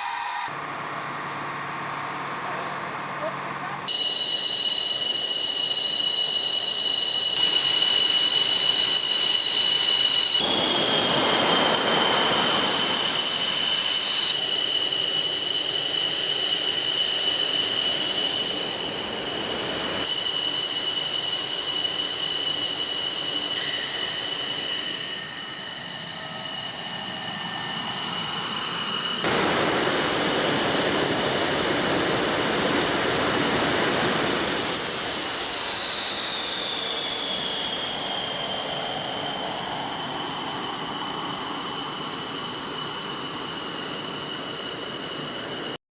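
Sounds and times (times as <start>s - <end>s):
jet engine whine and roar: 0.0s - 45.8s.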